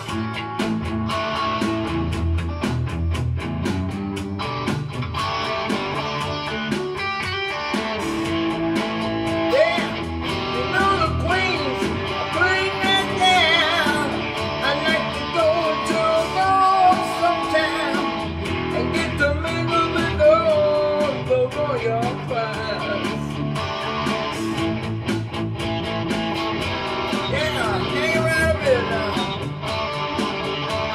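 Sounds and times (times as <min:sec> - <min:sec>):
electric guitar lead: 0:00.0 - 0:30.9
rock accompaniment with beat: 0:00.0 - 0:30.9.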